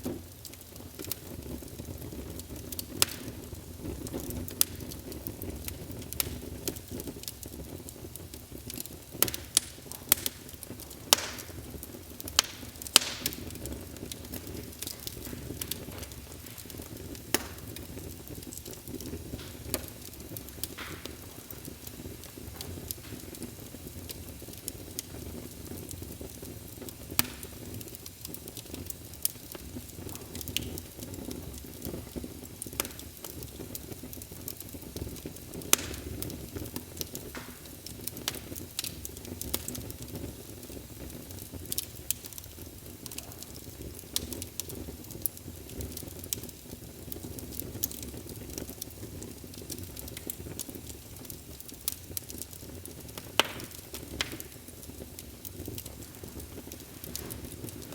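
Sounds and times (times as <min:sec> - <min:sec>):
fire crackling and popping: 0:00.0 - 0:57.9
wood fire burning: 0:00.0 - 0:57.9.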